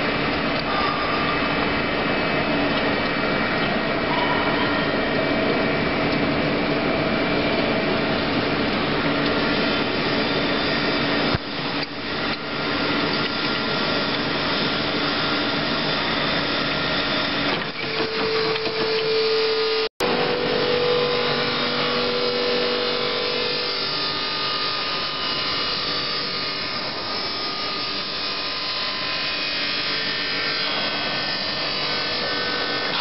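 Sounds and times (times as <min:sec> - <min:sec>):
industrial machinery running: 0:00.0 - 0:33.0.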